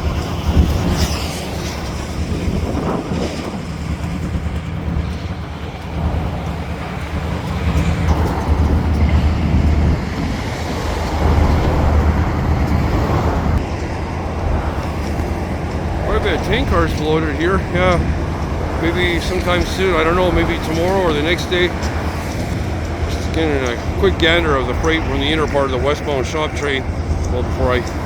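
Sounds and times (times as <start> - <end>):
low vehicle rumble: 0.0 - 28.0
wind buffeting microphone: 0.0 - 28.0.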